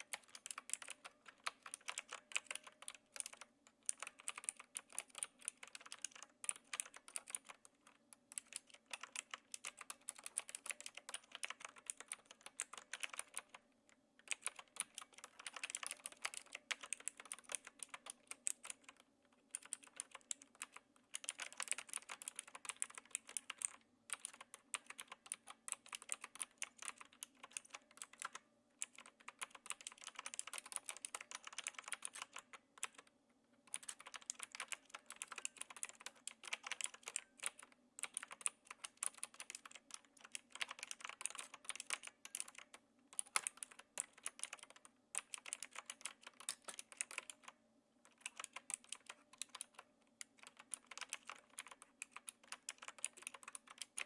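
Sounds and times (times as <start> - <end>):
mechanical keyboard clicking: 0.0 - 13.6, 14.2 - 54.0.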